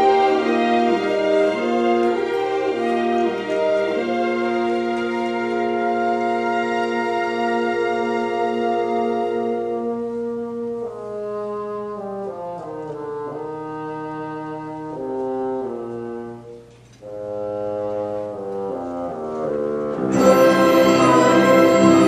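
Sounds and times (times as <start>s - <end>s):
orchestra playing held notes: 0.0s - 22.0s.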